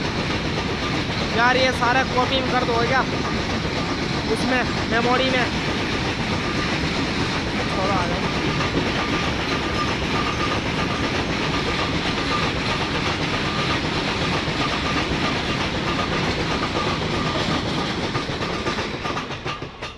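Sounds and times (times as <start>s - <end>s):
train wheels rumbling on rail: 0.0s - 19.9s.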